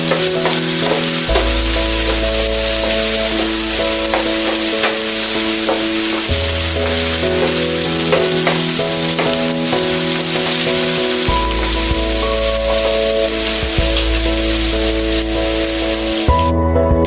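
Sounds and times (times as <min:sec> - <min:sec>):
food sizzling in oil: 0:00.0 - 0:16.3
soft background music: 0:00.0 - 0:17.0.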